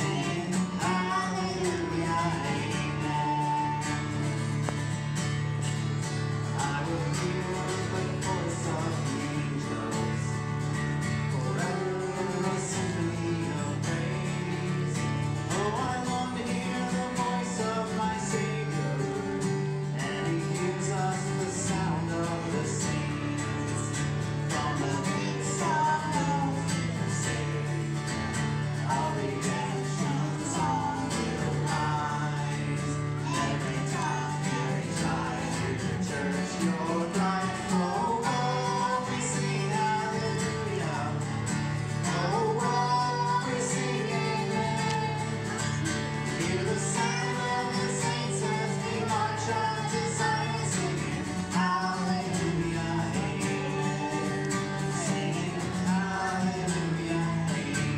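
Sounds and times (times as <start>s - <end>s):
boy singing into a microphone: 0.0s - 4.4s, 6.5s - 10.4s, 11.3s - 41.4s, 42.0s - 57.9s
man singing: 0.0s - 5.0s, 6.2s - 57.9s
acoustic guitar strumming: 0.0s - 57.9s.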